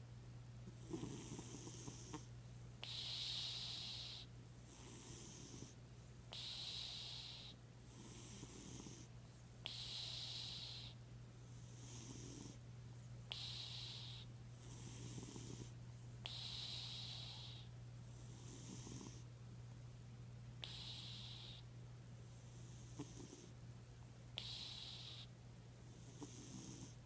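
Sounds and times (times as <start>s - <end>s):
cat snoring softly: 0.8s - 12.6s, 13.3s - 19.3s, 20.6s - 21.6s, 22.3s - 23.6s, 24.4s - 27.0s.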